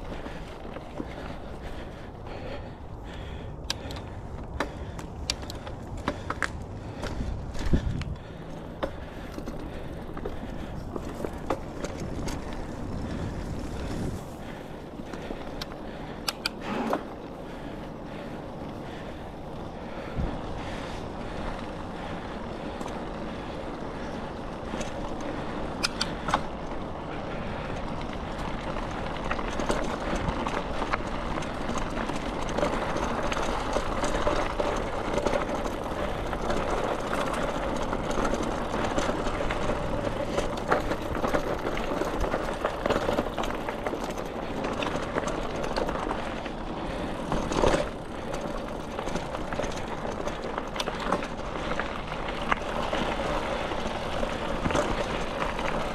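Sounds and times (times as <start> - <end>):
bicycle tyre and wind noise: 0.0 - 55.9
bike clicks and rattles: 0.0 - 55.9.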